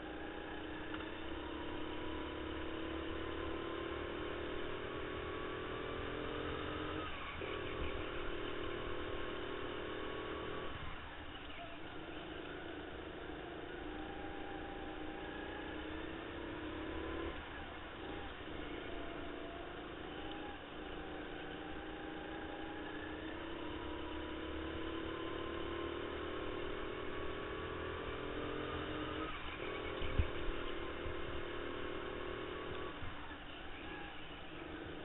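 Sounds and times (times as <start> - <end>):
go-kart motor: 0.0 - 35.0.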